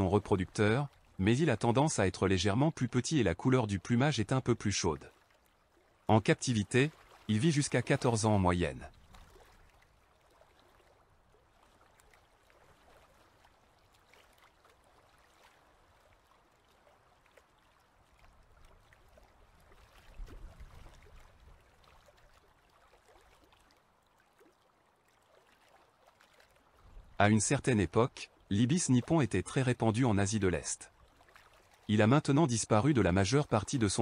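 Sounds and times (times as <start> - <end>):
soft water trickling: 0.0 - 34.0.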